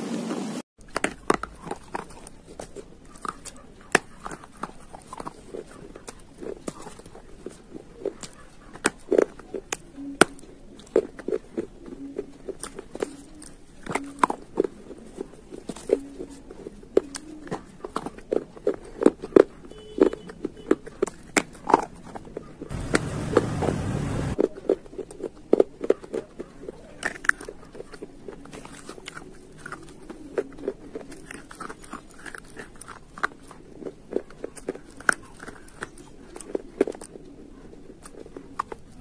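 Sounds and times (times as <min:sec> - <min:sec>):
slate being chewed: 0:00.8 - 0:23.1, 0:24.4 - 0:39.0.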